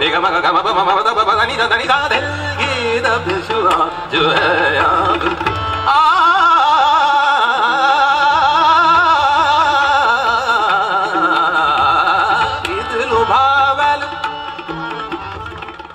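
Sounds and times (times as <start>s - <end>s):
man singing fast vocal runs: 0.0s - 15.7s
accompanying instruments: 0.0s - 15.9s.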